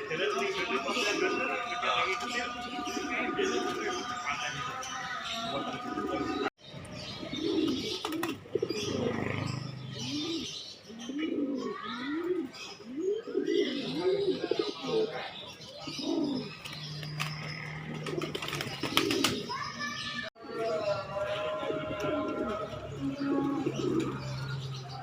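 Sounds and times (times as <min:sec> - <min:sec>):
pigeons cooing: 0:00.0 - 0:19.6, 0:20.5 - 0:25.0.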